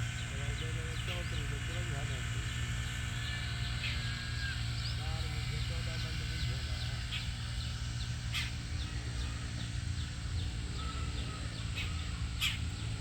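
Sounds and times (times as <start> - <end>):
harsh bird calls: 0.0 - 13.0
small birds chirping: 0.0 - 13.0.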